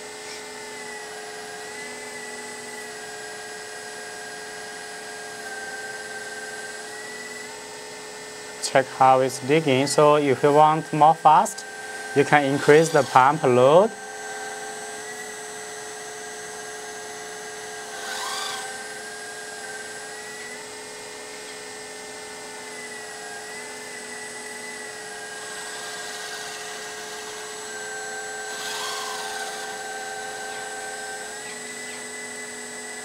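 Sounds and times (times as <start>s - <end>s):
hydraulic pump whine: 0.0s - 33.0s.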